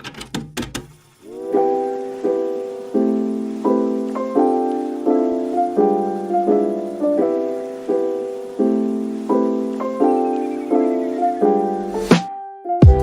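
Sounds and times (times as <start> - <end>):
soft piano chords: 1.3 - 13.0.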